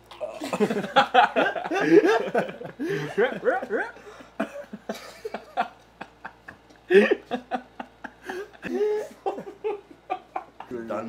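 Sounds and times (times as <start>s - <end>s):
men laughing: 0.2s - 10.9s.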